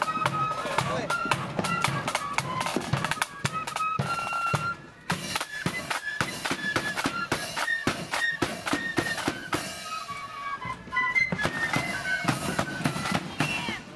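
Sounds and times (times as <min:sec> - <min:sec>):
flutes playing melody: 0:00.0 - 0:13.9
snare drums: 0:00.0 - 0:13.9.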